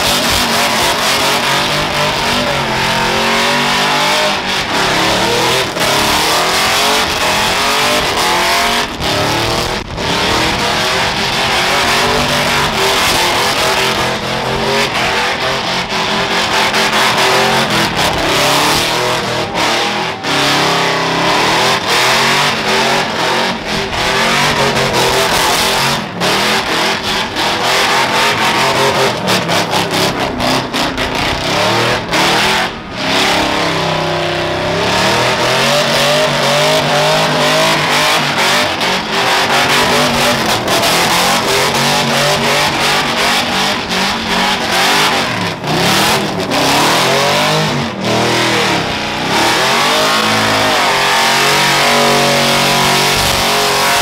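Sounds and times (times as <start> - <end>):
pickup engine revving in burnout: 0.0 - 54.0.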